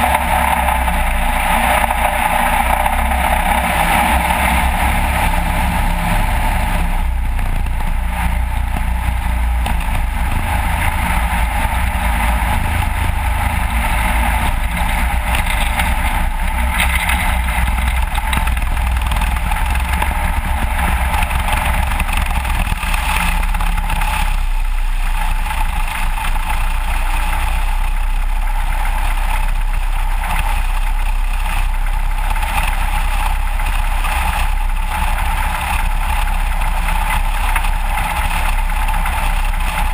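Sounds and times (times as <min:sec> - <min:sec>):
small aircraft engine and propeller: 0:00.0 - 0:39.9.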